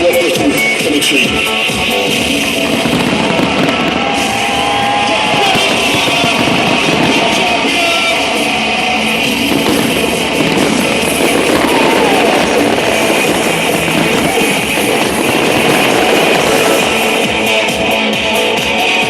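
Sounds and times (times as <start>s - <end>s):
rock music with guitar: 0.0s - 19.0s.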